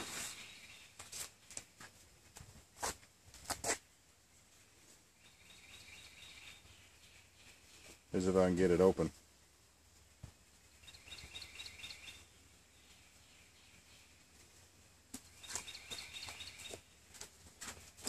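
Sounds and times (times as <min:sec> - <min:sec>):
faint birdsong: 0:00.0 - 0:02.1, 0:03.9 - 0:18.0.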